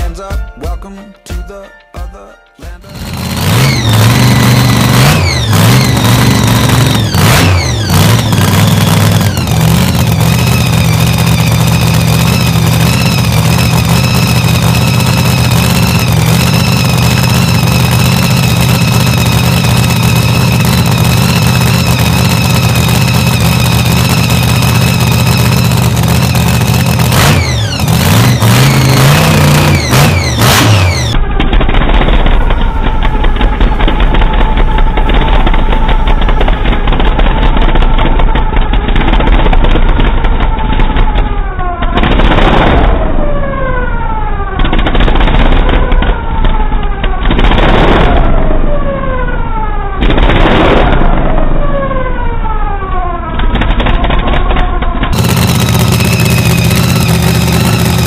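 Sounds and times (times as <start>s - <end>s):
drag car engine revving and idling: 2.9s - 58.0s.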